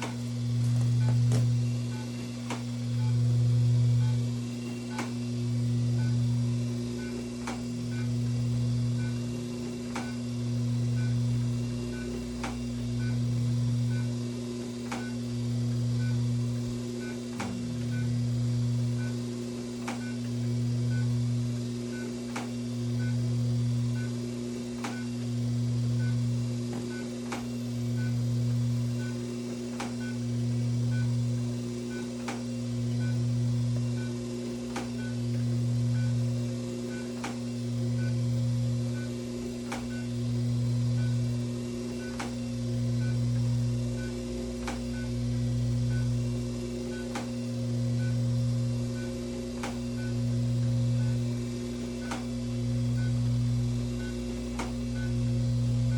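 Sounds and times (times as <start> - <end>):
laser unit humming: 0.0 - 55.9.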